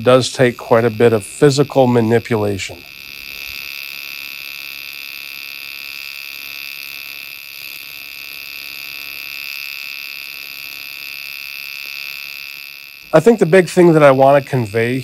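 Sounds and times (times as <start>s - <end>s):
welding arc buzzing: 0.0s - 15.0s.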